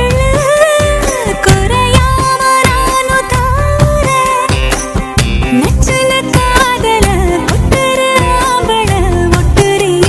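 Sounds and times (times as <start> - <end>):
steady percussion beat: 0.1 - 10.0.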